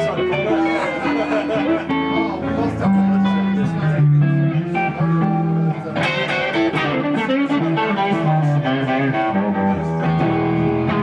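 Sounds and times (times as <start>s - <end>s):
electric guitar notes: 0.0s - 11.0s.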